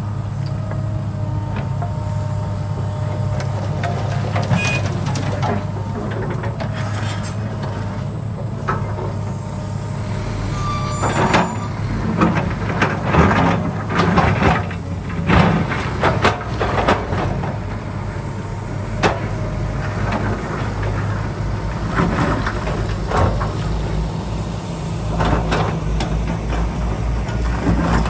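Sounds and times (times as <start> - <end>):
diesel machinery engine hum: 0.0 - 28.0.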